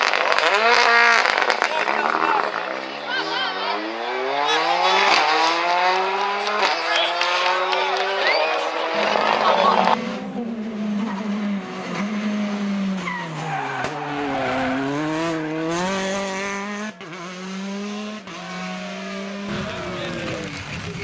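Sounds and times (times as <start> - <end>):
rally car engine revving: 0.0 - 21.0
tyre and road noise: 0.0 - 21.0.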